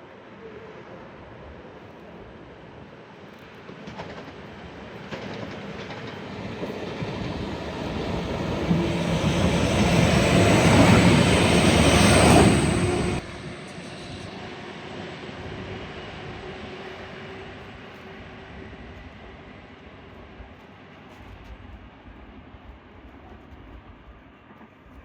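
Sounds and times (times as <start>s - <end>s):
rail noise: 0.0s - 24.8s
diesel railcar engine drone: 0.1s - 21.0s.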